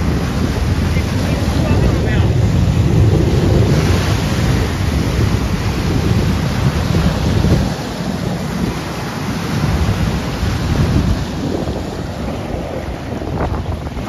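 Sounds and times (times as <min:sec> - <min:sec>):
choppy lake waves: 0:00.0 - 0:14.0
wind buffeting microphone: 0:00.0 - 0:14.0.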